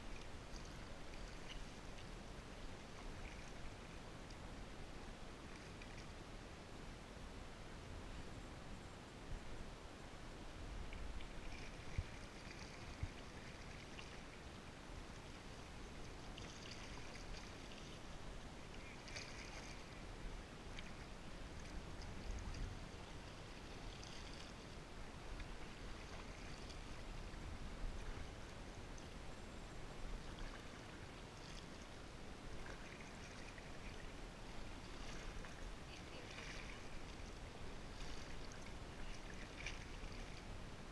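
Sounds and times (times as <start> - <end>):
paddle splashes: 0.0 - 6.2, 10.7 - 29.3, 30.0 - 40.9
soft water sounds: 0.0 - 40.9.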